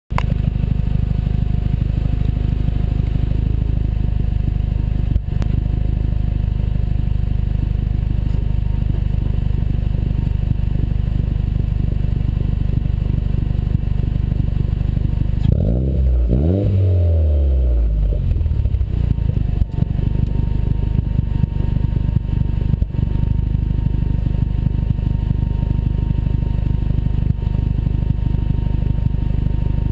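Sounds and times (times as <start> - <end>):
turbocharged car engine running: 0.1 - 29.9.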